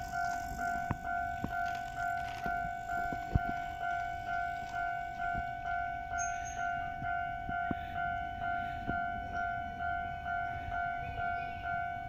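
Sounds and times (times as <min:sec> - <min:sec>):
level-crossing warning bell: 0:00.0 - 0:12.0.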